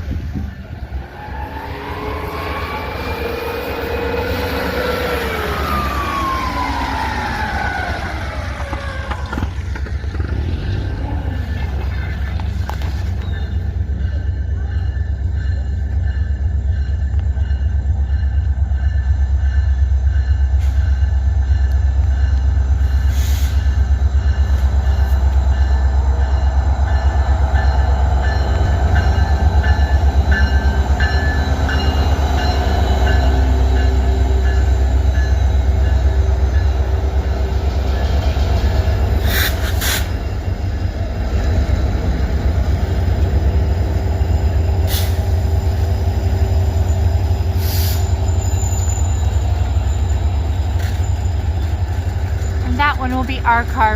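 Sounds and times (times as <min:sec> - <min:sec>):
diesel locomotive rumbling: 0:00.0 - 0:53.9.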